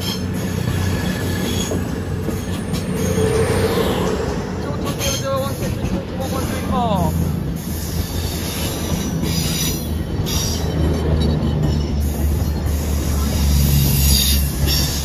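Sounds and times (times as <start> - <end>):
diesel train engine humming: 0.0 - 15.0
train wheels on rail: 0.0 - 15.0.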